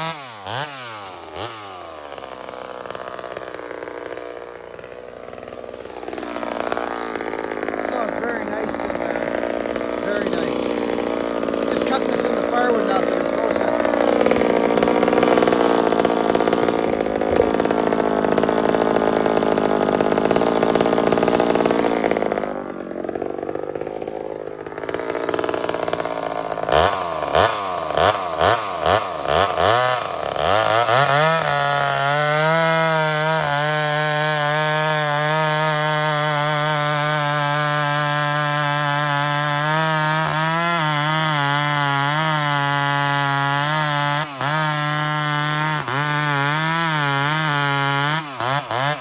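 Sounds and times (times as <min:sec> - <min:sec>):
chainsaw revving and idling: 0:00.0 - 0:49.0.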